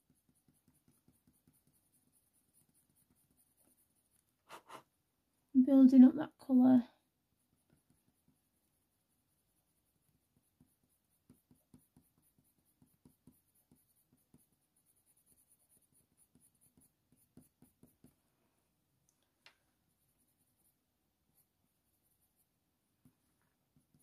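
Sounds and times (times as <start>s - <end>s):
pencil scratching on paper: 0.0s - 4.9s, 7.1s - 18.2s, 19.9s - 24.0s.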